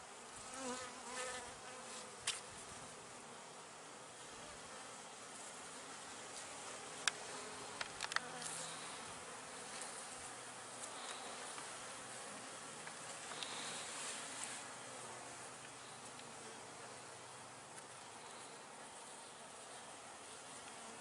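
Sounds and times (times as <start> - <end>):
bees buzzing: 0.3 - 21.0.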